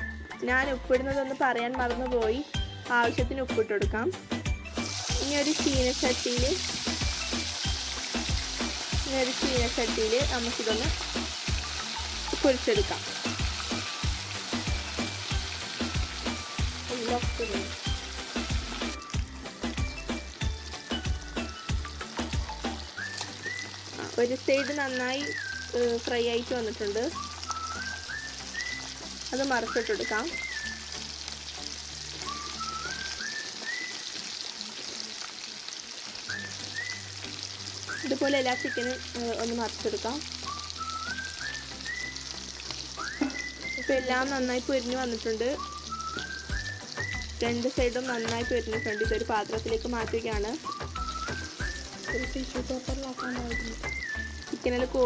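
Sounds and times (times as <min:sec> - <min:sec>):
soft background music: 0:00.0 - 0:55.0
chicken sizzling in hot oil: 0:02.4 - 0:55.0.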